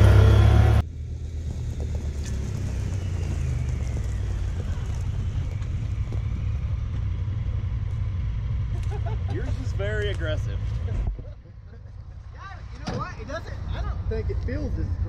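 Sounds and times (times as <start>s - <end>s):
engine accelerating hard: 0.0s - 15.0s
low engine rumble: 0.0s - 15.0s
wind: 0.0s - 15.0s.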